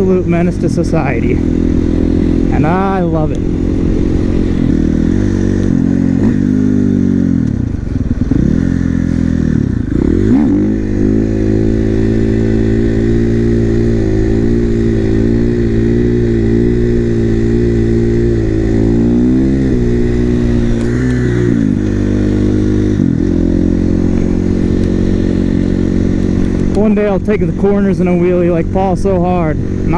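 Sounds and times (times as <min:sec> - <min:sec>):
motorcycle engine: 0:00.0 - 0:29.9.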